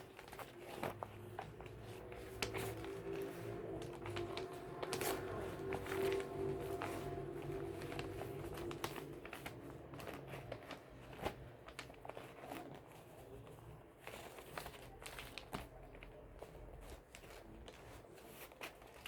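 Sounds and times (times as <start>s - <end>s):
paper crumpling: 0.0s - 19.0s.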